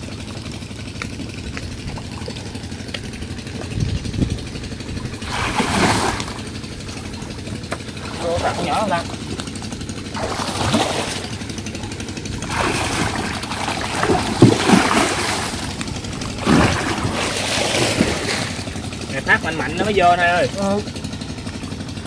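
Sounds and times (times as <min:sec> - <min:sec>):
muddy water splashing and sloshing: 0:00.0 - 0:22.0.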